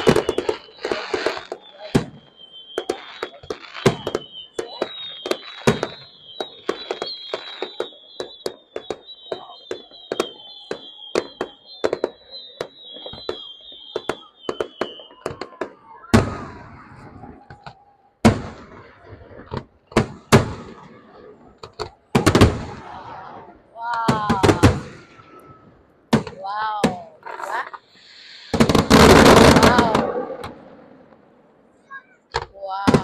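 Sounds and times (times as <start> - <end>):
firework bangs echoing: 0.0 - 33.0
firework cracks: 0.0 - 33.0
firework whistle: 0.0 - 33.0.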